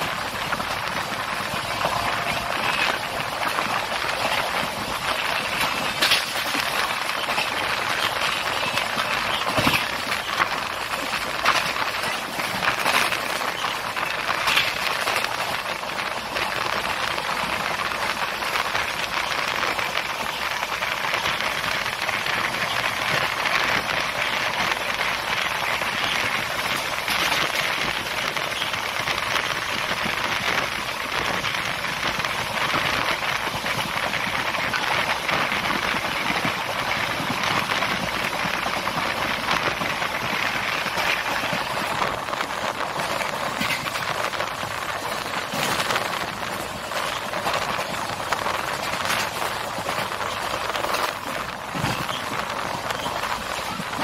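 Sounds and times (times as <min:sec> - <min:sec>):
train wheels roaring on rails: 0:00.0 - 0:54.0.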